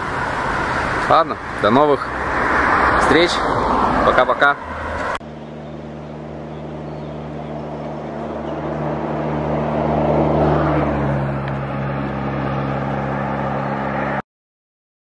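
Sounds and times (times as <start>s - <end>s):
vehicle engine humming: 0.0s - 14.2s.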